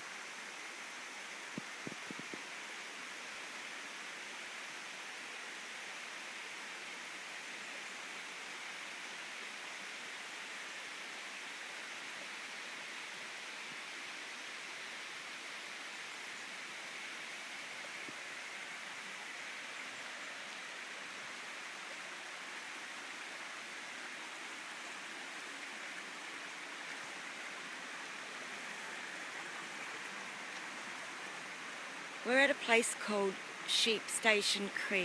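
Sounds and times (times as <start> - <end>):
creek and small waterfall rushing: 0.0 - 35.0.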